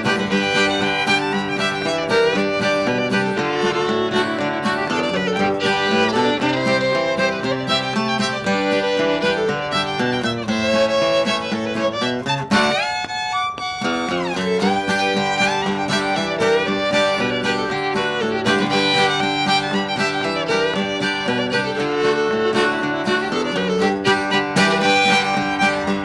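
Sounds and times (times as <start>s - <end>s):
acoustic guitar playing: 0.0s - 26.0s
bluegrass fiddle: 0.0s - 26.0s.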